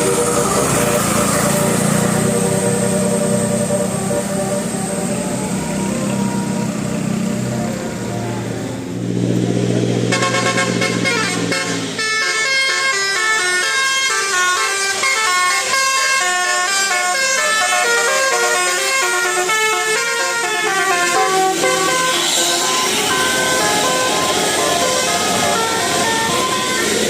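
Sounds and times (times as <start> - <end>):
multi-tone musical bus horn: 0.0 - 8.5, 10.0 - 27.0.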